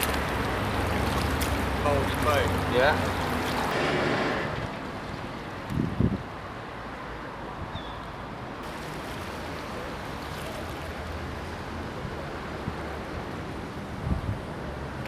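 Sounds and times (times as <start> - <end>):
wind and water rushing: 0.0 - 15.0.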